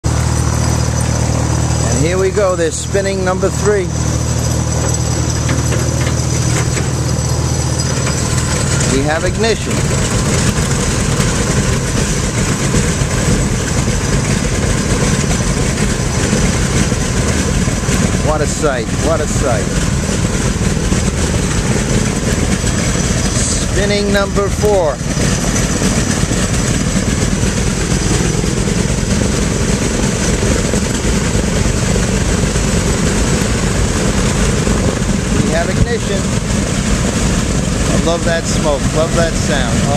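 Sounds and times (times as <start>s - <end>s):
radial aircraft engine rumbling: 0.0s - 39.9s.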